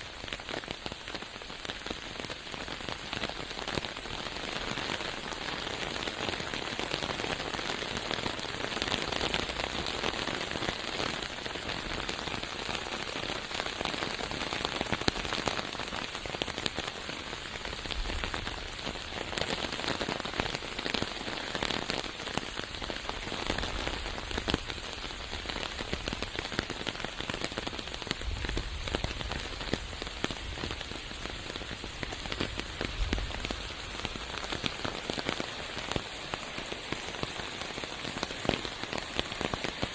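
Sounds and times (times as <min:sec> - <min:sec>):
raindrops ticking: 0:00.0 - 0:39.9
steady rain in a forest: 0:00.0 - 0:39.9.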